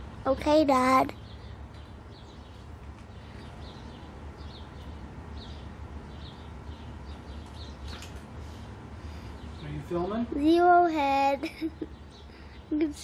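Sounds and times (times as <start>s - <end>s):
bird chirping: 1.1s - 10.3s, 11.7s - 13.0s.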